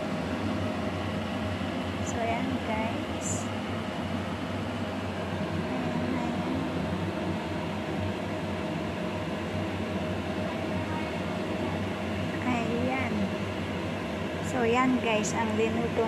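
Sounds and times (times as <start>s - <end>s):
fan whirring: 0.0s - 16.0s
thin constant tone: 0.0s - 16.0s.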